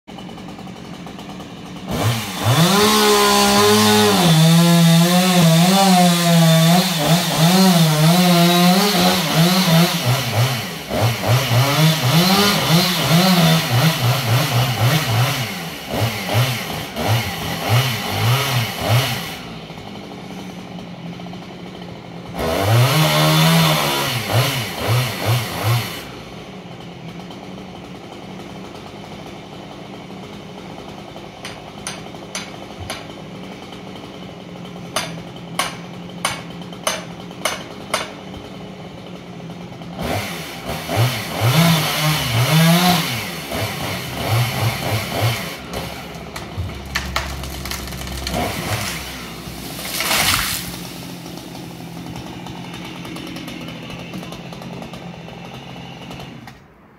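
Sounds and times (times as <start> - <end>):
chainsaw revving: 0.1 - 56.9.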